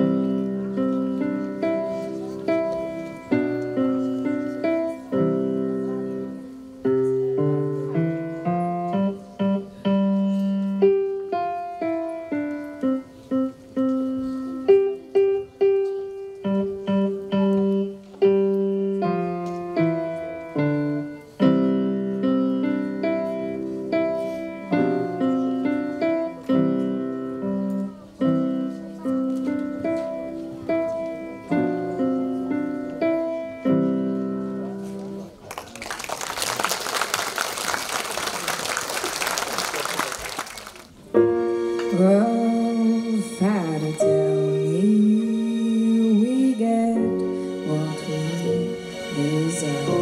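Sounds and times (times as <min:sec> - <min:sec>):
grand piano playing: 0:00.0 - 0:35.4, 0:40.1 - 0:50.0.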